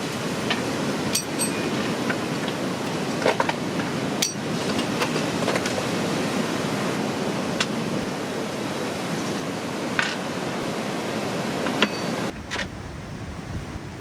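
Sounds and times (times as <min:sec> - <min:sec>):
strong wind: 0:00.0 - 0:14.0
surf: 0:00.0 - 0:14.0.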